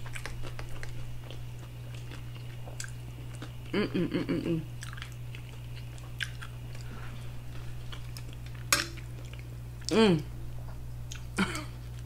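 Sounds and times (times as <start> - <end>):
person chewing food: 0.0 - 10.0, 11.0 - 12.0
low electrical hum: 0.0 - 12.0.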